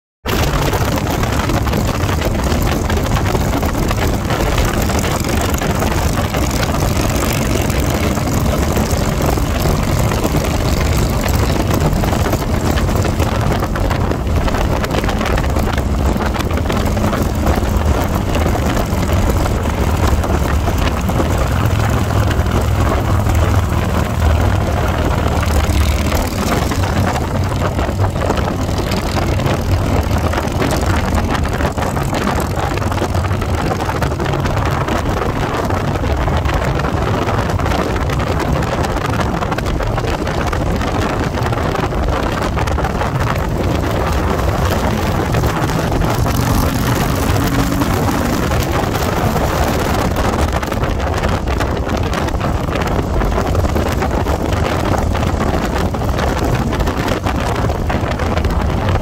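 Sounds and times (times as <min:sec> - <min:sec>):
motorcycle engine at road speed: 0:00.2 - 0:59.0
wind rushing over microphone: 0:00.2 - 0:59.0.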